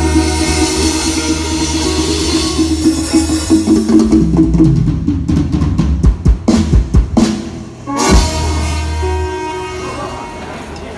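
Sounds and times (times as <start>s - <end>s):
amplified procession band music: 0.0s - 10.9s.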